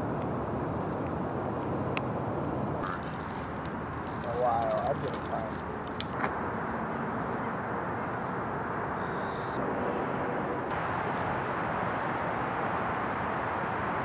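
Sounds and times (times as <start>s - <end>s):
rumble of distant vehicles: 0.0s - 14.0s.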